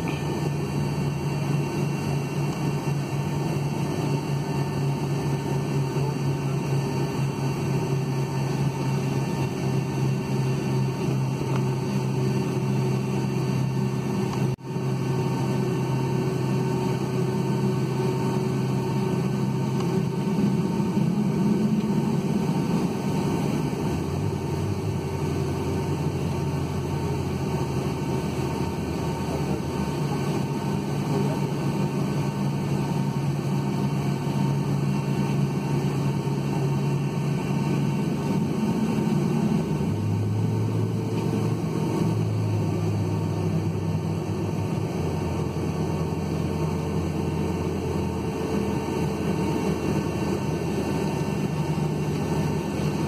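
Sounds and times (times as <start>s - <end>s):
airplane cabin engine drone: 0.0s - 53.0s.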